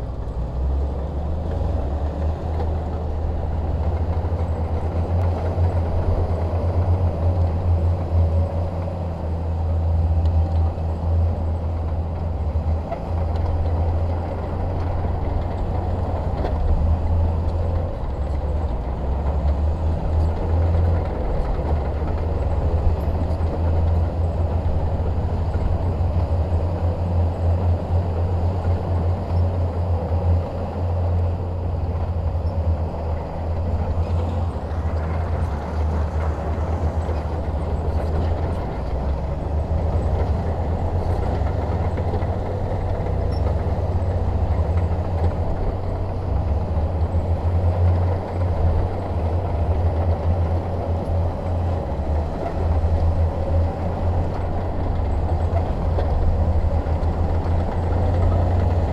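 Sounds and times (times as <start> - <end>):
diesel engine throbbing: 0.0 - 58.9.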